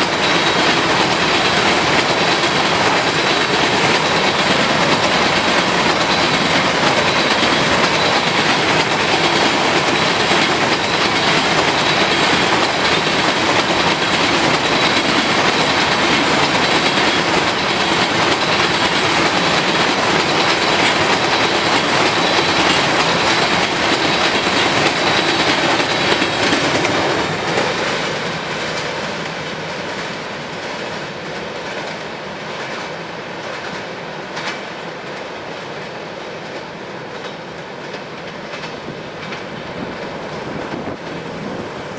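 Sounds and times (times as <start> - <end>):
freight train wheels clattering: 0.0 - 41.9.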